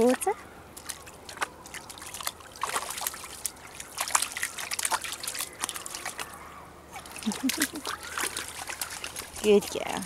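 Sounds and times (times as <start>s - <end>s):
water trickling: 0.0s - 10.0s
dog splashing in water: 0.8s - 6.4s, 7.0s - 10.0s.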